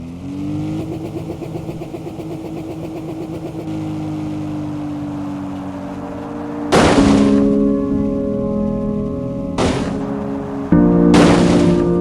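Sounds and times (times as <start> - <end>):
pulsing engine hum: 0.0 - 12.0.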